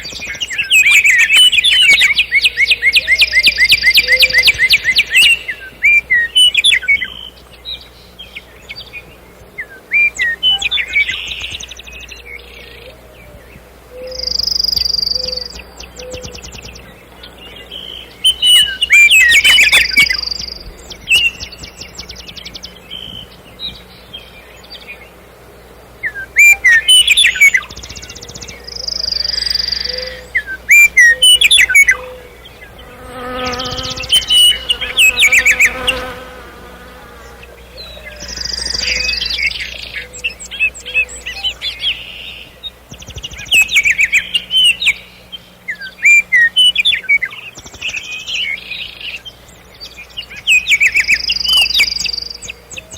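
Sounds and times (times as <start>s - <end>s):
nightingale singing: 0.0s - 25.2s, 26.0s - 52.9s.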